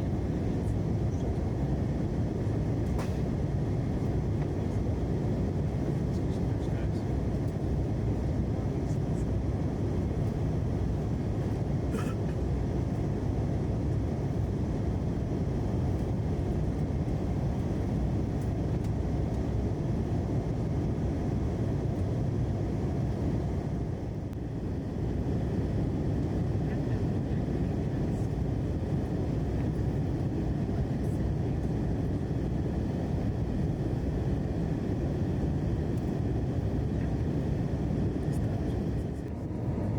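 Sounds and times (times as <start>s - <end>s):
aircraft cabin engine rush: 0.0s - 39.9s.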